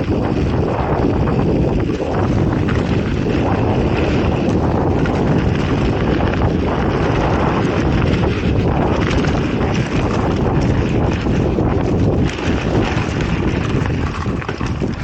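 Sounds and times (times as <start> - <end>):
bike knocks and rattles: 0.0 - 15.0
tyres rolling over rough ground: 0.0 - 15.0
wind on camera microphone: 0.0 - 15.0.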